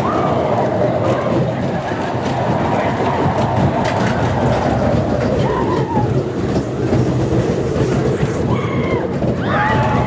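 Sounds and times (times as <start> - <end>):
roller coaster clicks: 0.0 - 10.0
roller coaster rumbling on track: 0.0 - 10.0.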